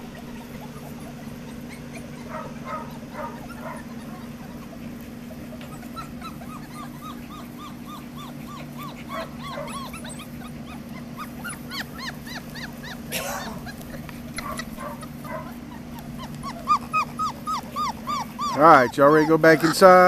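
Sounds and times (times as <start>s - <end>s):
puppies whimpering: 0.0s - 20.0s.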